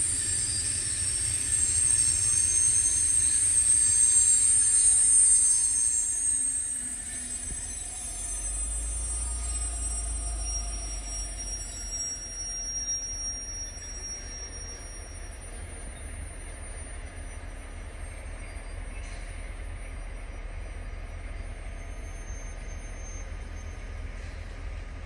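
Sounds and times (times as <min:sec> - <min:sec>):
diesel train rumbling: 0:00.0 - 0:25.0
faint high wheel squeal: 0:00.0 - 0:25.0.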